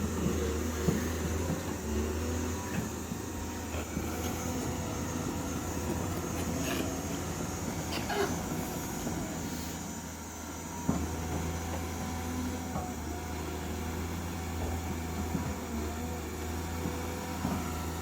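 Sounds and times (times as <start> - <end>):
diesel engine running: 0.0 - 17.7.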